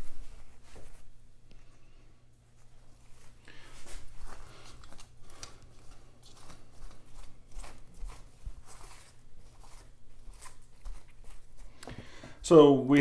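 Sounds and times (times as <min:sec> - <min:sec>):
paper towel crinkling: 0:00.0 - 0:01.4, 0:02.4 - 0:11.8.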